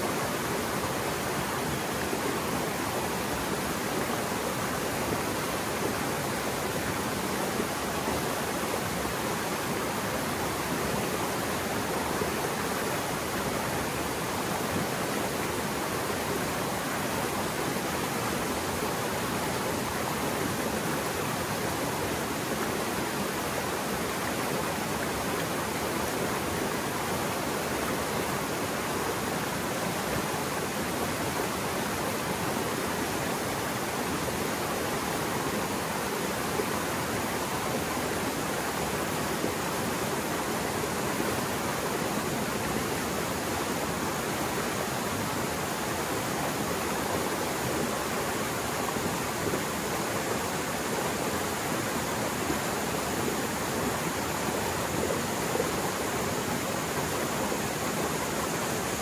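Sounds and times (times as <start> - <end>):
mountain stream rushing: 0.0 - 59.0.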